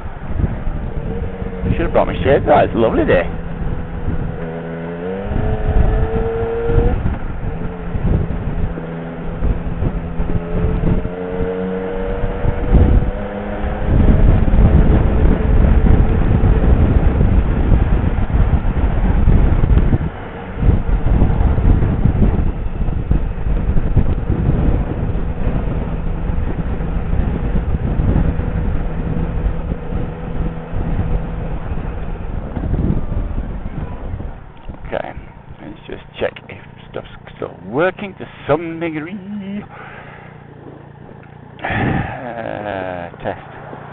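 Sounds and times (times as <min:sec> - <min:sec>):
motorcycle engine accelerating: 0:00.0 - 0:43.9
wind noise on microphone: 0:00.0 - 0:43.9.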